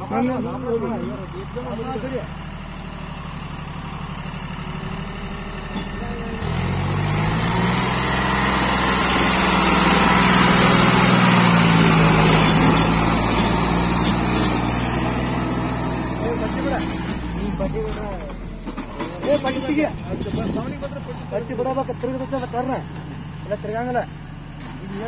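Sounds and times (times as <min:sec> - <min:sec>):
tractor diesel engine working hard: 0:00.0 - 0:25.0.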